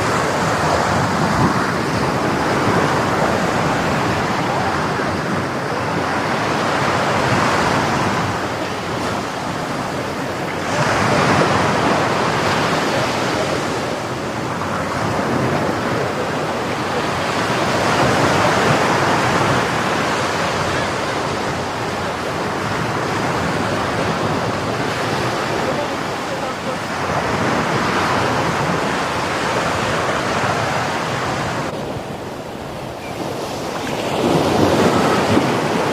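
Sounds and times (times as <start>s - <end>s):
waves breaking on beach: 0.0s - 35.9s.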